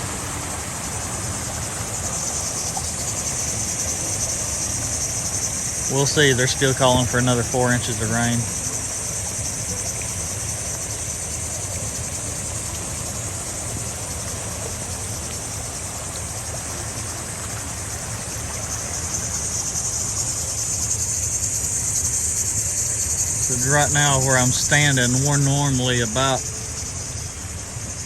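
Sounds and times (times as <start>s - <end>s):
flooded creek rushing: 0.0s - 28.0s
high-pitched hiss: 0.0s - 28.0s.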